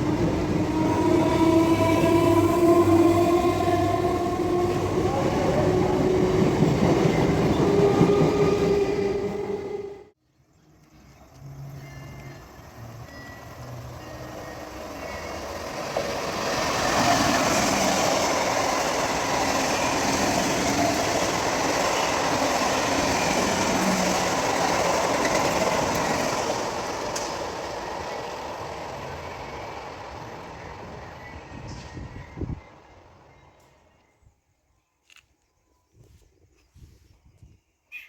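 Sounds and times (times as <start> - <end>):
train passing on track: 0.0 - 34.3.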